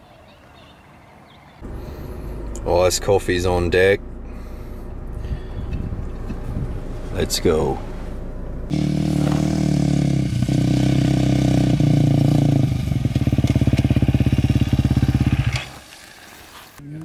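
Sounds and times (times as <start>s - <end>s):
dirt bike engine: 1.6s - 16.4s.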